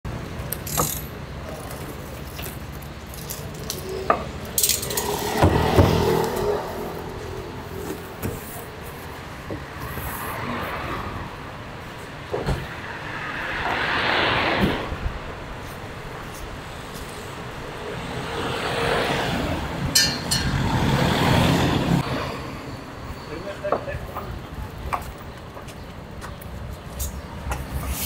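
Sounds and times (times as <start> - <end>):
street traffic rumble: 0.0 - 28.0.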